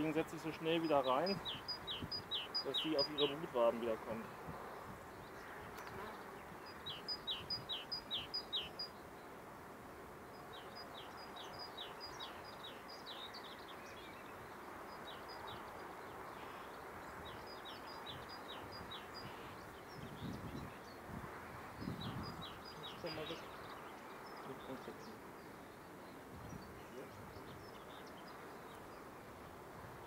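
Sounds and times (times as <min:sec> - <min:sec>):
honeybees buzzing: 0:00.0 - 0:08.8, 0:09.6 - 0:30.0
songbird singing: 0:00.0 - 0:09.4, 0:10.3 - 0:30.0.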